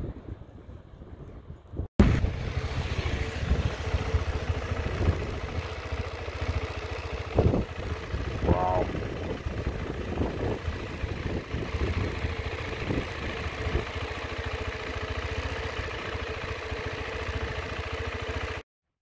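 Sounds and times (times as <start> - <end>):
motorcycle engine idling: 2.0 - 18.6.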